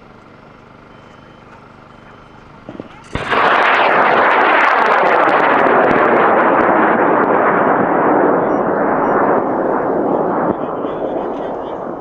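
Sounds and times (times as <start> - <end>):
rocket motor roaring: 0.0 - 12.0.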